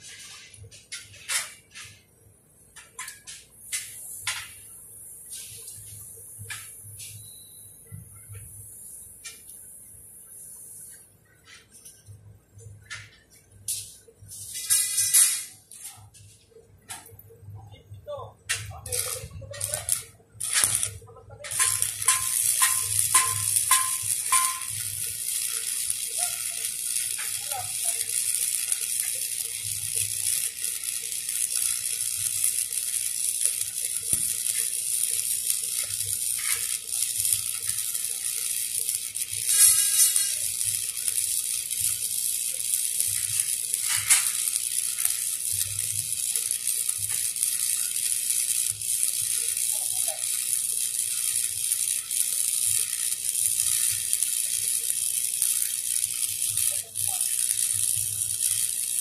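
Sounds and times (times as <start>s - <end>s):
welding arc crackling: 0.0s - 59.0s.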